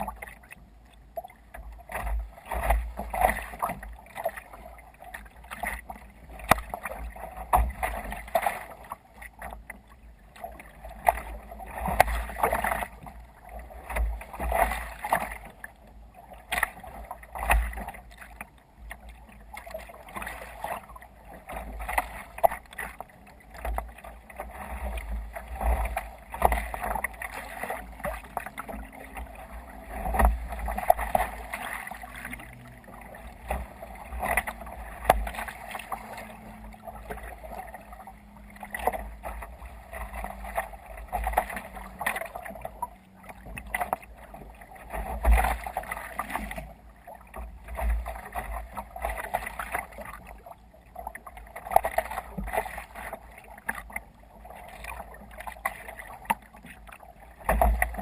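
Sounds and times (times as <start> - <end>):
waves splashing against kayak hull: 0.0 - 58.0.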